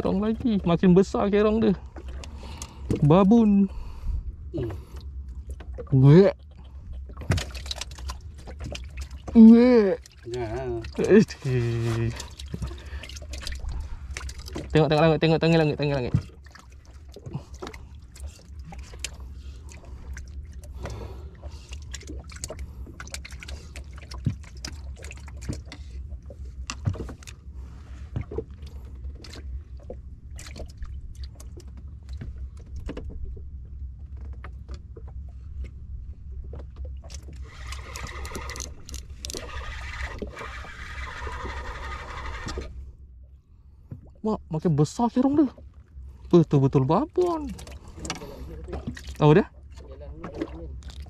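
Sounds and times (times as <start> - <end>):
water slapping boat hull: 0.0 - 51.0.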